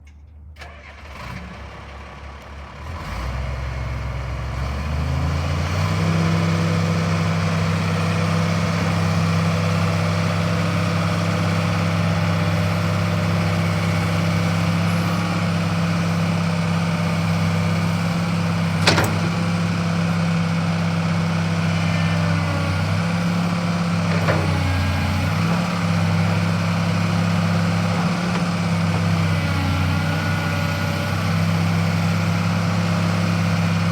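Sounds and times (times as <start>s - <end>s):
excavator diesel engine running: 1.5s - 33.9s.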